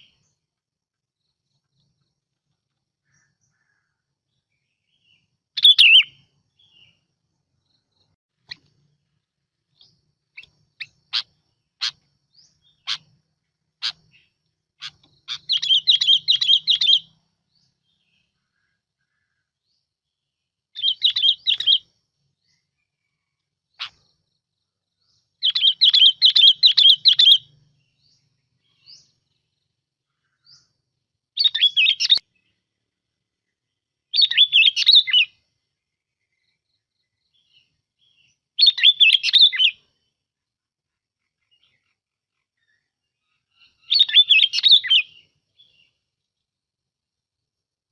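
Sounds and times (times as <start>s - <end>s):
bird chirping song: 0.0s - 47.9s.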